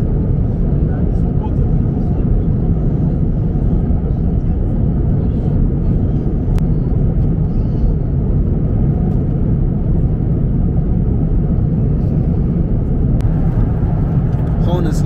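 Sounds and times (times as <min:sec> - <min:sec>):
airliner cabin engine roar: 0:00.0 - 0:15.0.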